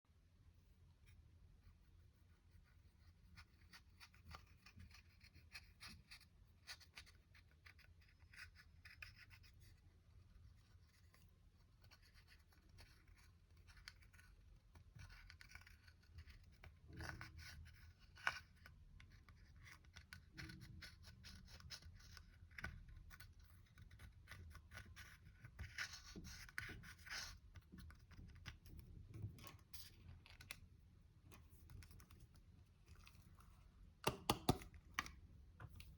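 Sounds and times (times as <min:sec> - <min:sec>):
scratching and crackling slime: 0:02.0 - 0:35.9.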